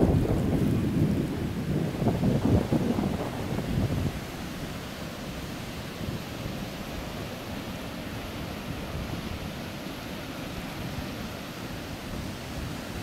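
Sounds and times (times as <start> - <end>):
surf washing over sand: 0.0 - 13.0.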